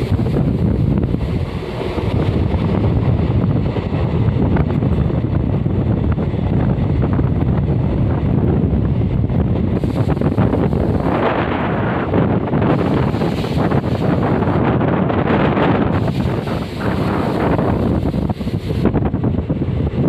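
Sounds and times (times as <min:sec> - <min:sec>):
train rumbling: 0:00.0 - 0:20.0
wind buffeting microphone: 0:00.0 - 0:20.0.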